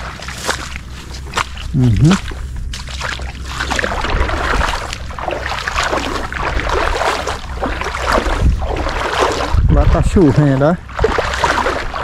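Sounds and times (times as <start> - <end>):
water sloshing from wading: 0.0 - 12.0.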